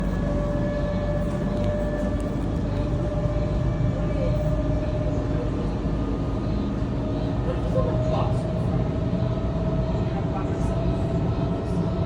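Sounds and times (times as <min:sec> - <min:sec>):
high train whine: 0:00.0 - 0:12.0.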